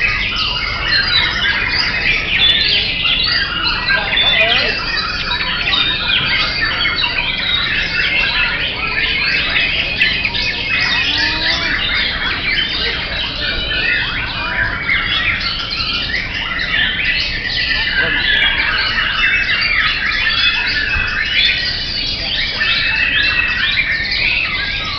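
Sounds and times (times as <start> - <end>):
chorus of birds singing: 0.0 - 24.9.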